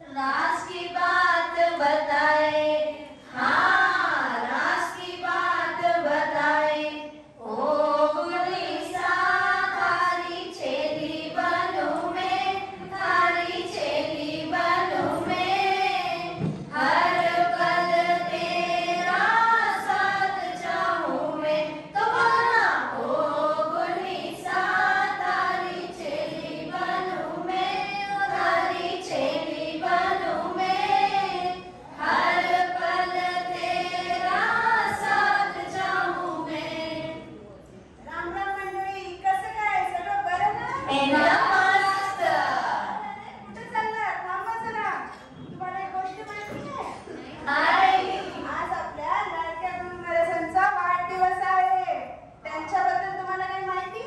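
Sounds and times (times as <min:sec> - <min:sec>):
women singing devotional song: 0:00.0 - 0:37.4, 0:38.0 - 0:43.8, 0:45.8 - 0:54.0.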